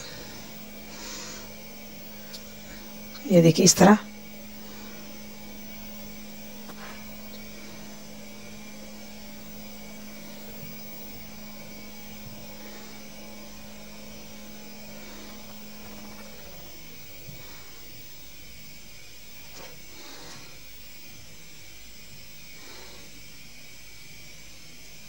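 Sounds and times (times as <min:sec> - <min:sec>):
even hiss: 0:00.0 - 0:25.0
steady low hum: 0:00.0 - 0:25.0.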